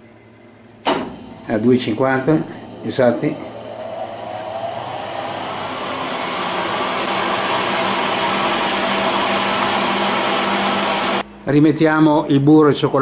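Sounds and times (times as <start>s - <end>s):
low hum: 0.0s - 11.4s
oven fan whoosh: 0.8s - 11.3s.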